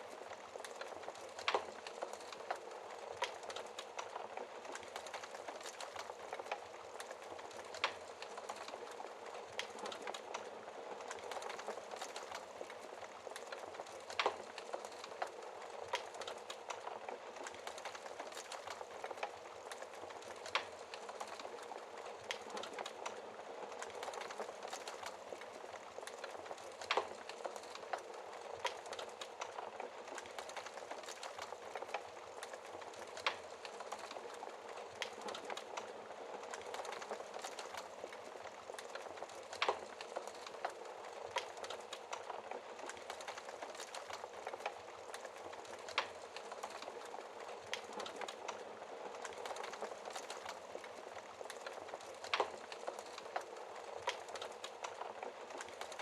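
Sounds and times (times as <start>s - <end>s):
wood fire hissing and crackling: 0.0s - 56.0s.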